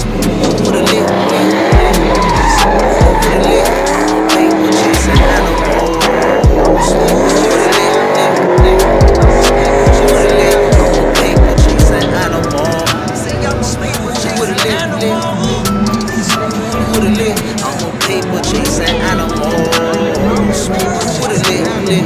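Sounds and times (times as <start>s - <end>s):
car engine revving: 0.0s - 22.0s
car tyres squealing: 0.0s - 22.0s
music with heavy bass beat: 0.0s - 22.0s.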